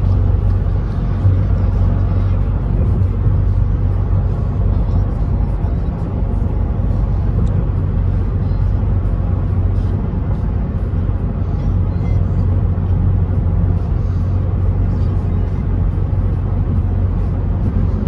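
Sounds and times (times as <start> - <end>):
vehicle road noise inside cabin: 0.0 - 18.0.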